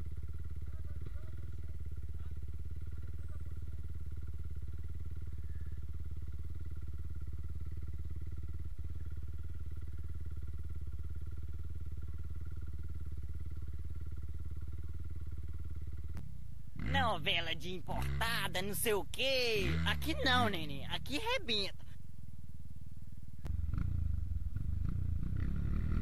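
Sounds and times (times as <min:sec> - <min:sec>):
motorcycle engine running: 0:00.0 - 0:22.0, 0:23.3 - 0:26.0.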